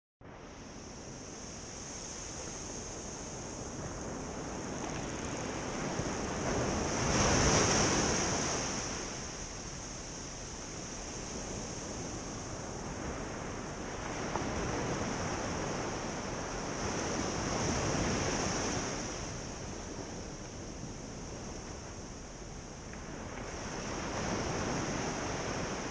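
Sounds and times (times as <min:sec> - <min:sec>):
constant high hiss: 0:00.2 - 0:25.9.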